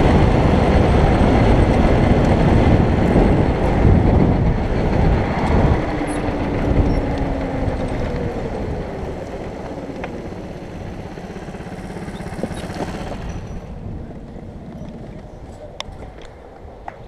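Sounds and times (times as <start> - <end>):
kart engine pulsing: 0.0 - 17.0.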